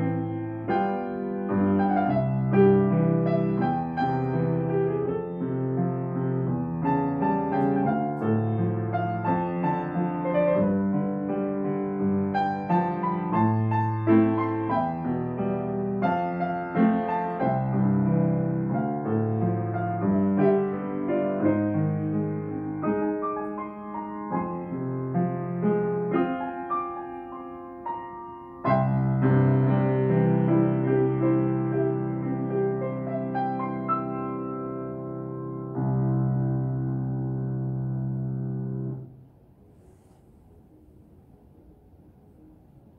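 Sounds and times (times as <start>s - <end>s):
grand piano playing: 0.0s - 39.6s.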